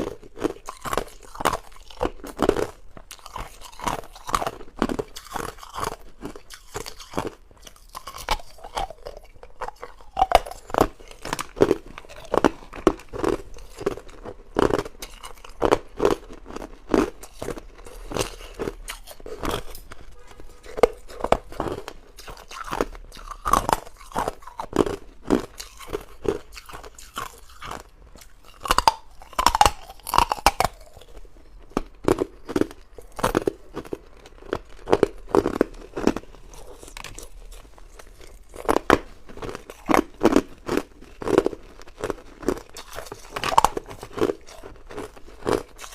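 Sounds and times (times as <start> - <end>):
ice crunching while chewed: 0.0 - 45.9.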